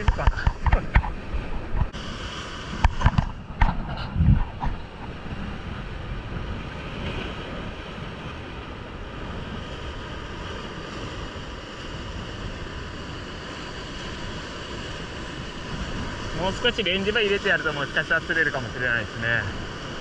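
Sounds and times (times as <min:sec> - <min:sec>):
wind buffeting microphone: 0:00.0 - 0:17.9
surf breaking over rocks: 0:00.0 - 0:20.0.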